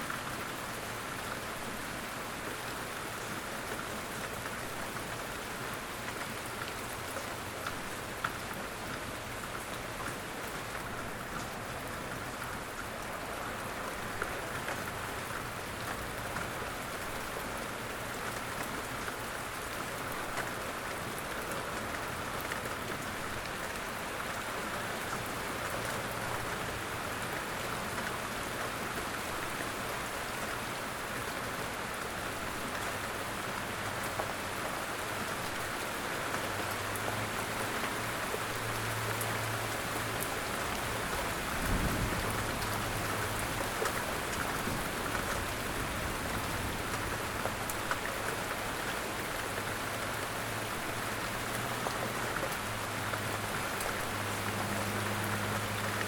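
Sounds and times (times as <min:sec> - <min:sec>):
light rain patter: 0:00.0 - 0:56.0.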